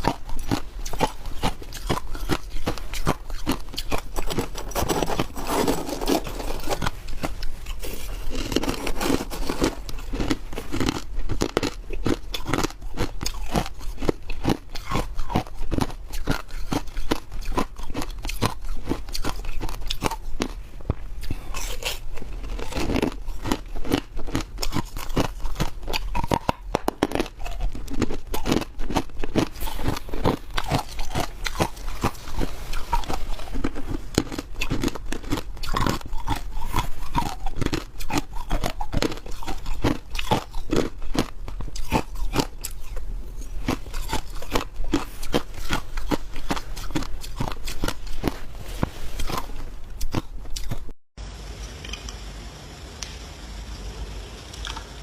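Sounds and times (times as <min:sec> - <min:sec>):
ice crunching between teeth: 0:00.0 - 0:20.6, 0:21.2 - 0:51.0.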